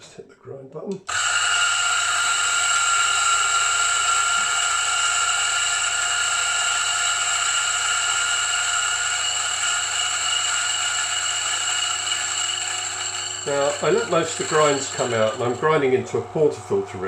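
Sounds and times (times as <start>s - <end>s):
coffee grinder whining: 1.0s - 17.0s.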